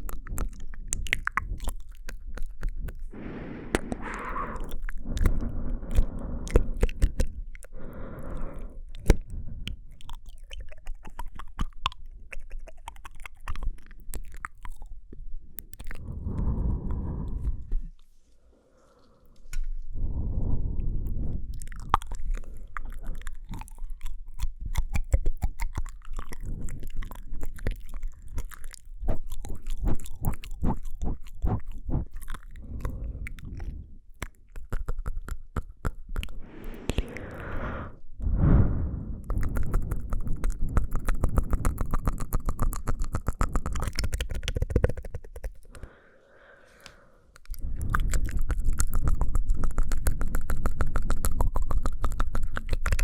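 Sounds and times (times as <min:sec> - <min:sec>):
wet mouth clicks and lip smacks: 0:00.0 - 0:18.2, 0:19.3 - 0:38.5, 0:39.2 - 0:46.1, 0:46.8 - 0:53.0.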